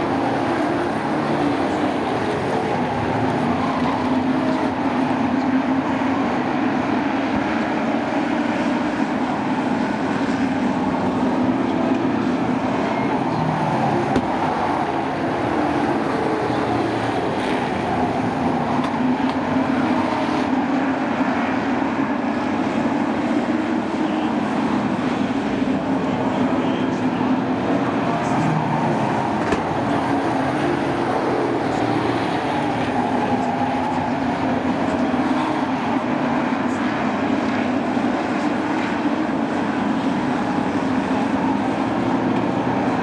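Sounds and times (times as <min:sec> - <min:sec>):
racing truck engines: 0:00.0 - 0:43.0.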